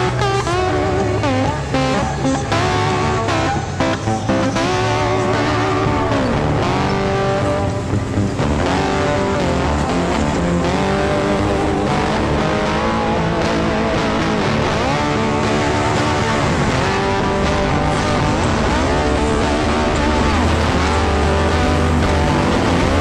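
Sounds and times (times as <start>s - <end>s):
background music with guitar: 0.0s - 23.0s
utv engine running: 0.0s - 23.0s.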